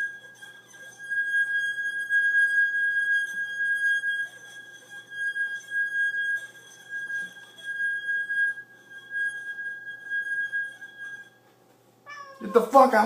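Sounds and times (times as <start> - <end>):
high-pitched ringing tone: 0.0 - 11.5.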